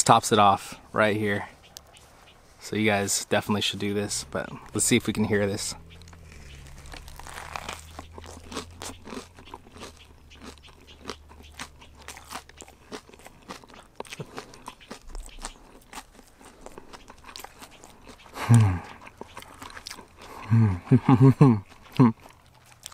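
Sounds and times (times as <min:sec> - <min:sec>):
crunchy chewing: 0:03.7 - 0:22.9.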